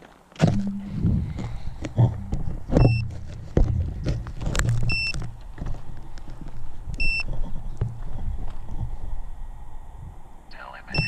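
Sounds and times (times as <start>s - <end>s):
rustling and knocks of handling: 0.0s - 9.0s.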